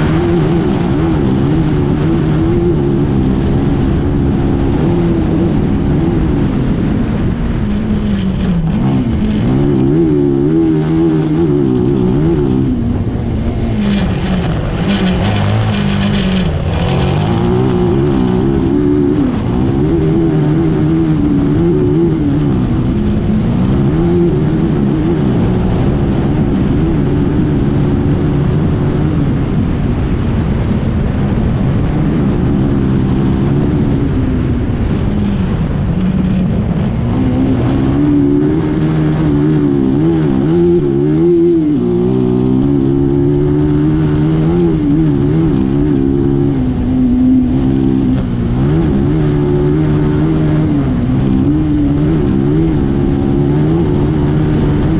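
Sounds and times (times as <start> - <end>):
race buggy engine revving: 0.0 - 54.9.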